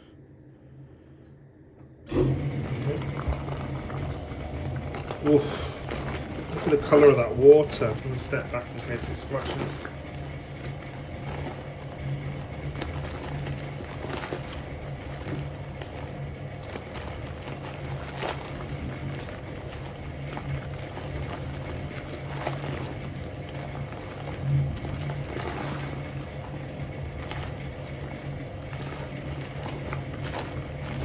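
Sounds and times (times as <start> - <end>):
washing machine motor humming: 0.0 - 31.0.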